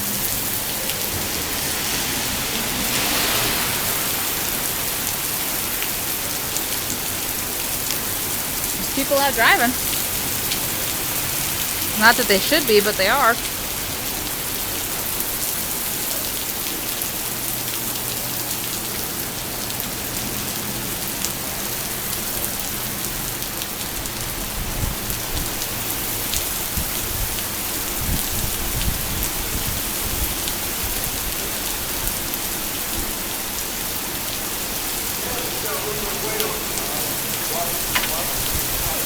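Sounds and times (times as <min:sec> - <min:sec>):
heavy rain on pavement: 0:00.0 - 0:39.0.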